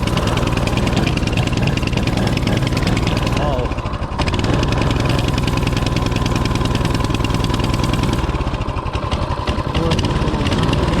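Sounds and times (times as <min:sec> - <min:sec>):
mini bike engine running: 0:00.0 - 0:11.0.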